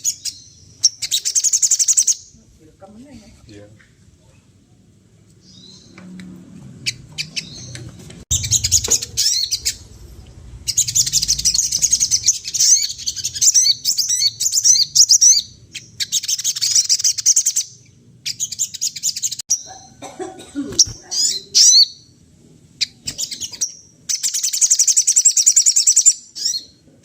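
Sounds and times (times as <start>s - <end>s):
songbird chirping and trilling: 0.0s - 2.5s, 5.2s - 6.2s, 6.8s - 20.0s, 20.8s - 26.8s.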